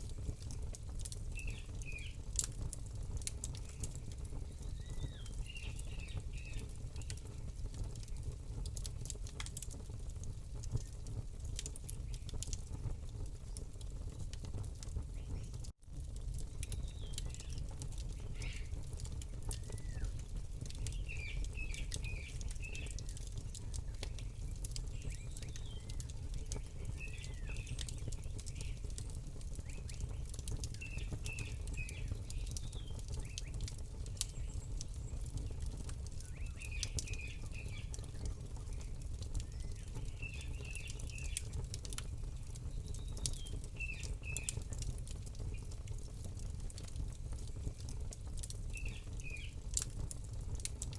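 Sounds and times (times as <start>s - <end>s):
campfire crackling: 0.0s - 50.9s
low fire rumble: 0.0s - 50.9s
small birds chirping: 0.1s - 2.6s, 3.2s - 9.7s, 10.6s - 14.3s, 14.9s - 15.7s, 16.3s - 49.8s.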